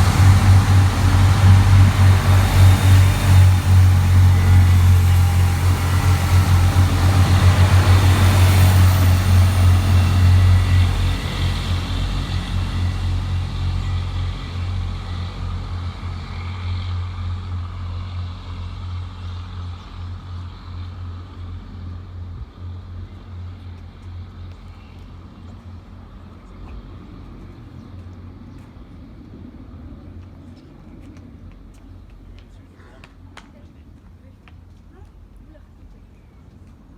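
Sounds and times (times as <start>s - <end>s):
train passing with low rumble: 0.0s - 36.9s.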